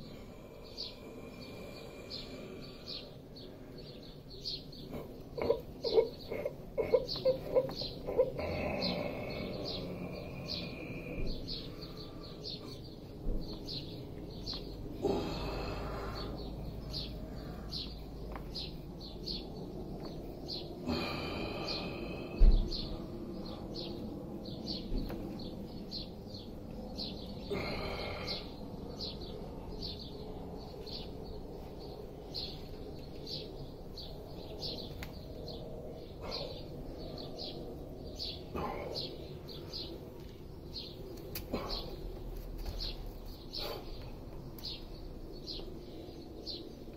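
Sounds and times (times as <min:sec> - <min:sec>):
fuller bird calls: 0:00.0 - 0:46.9.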